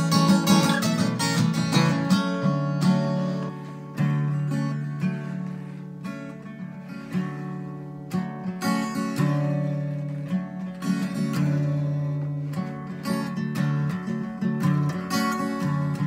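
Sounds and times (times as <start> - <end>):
acoustic guitar strummed: 0.0 - 16.0.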